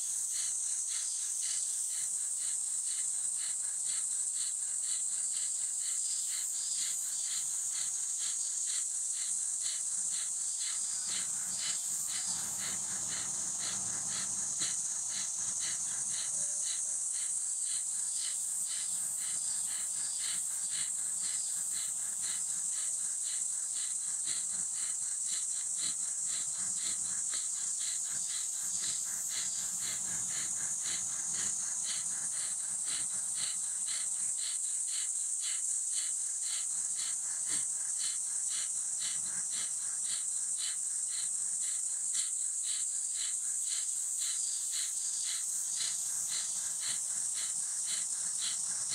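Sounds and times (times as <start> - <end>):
high-pitched insect drone: 0.0 - 48.9.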